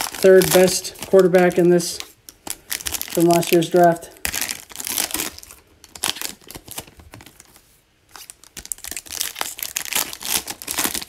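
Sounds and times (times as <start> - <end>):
foil wrappers tearing and crinkling: 0.0 - 11.0.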